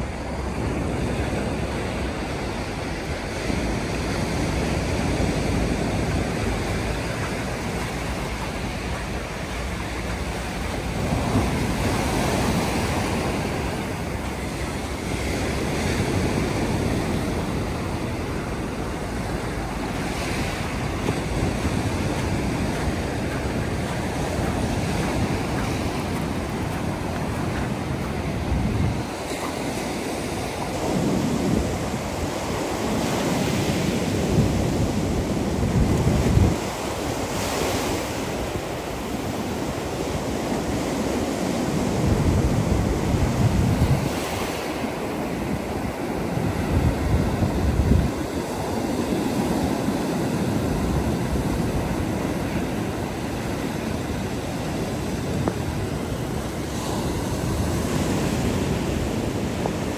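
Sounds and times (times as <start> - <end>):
sea waves breaking: 0.0 - 59.9
wind buffeting microphone: 0.0 - 59.9.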